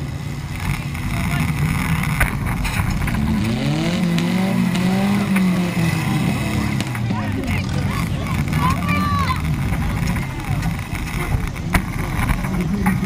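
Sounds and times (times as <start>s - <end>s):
car engines revving: 0.0s - 13.0s
cars knocking together: 0.0s - 13.0s.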